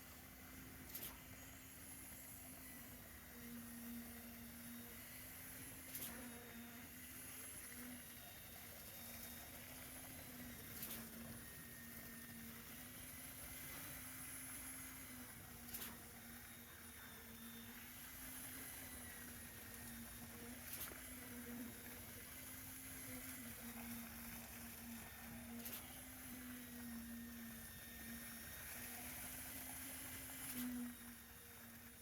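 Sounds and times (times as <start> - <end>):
concrete pump engine running: 0.0 - 32.0.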